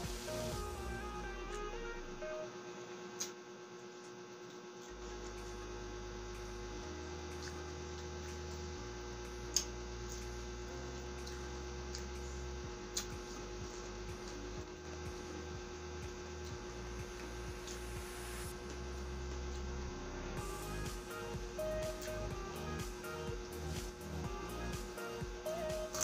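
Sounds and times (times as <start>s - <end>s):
electric fan humming: 0.0s - 26.0s.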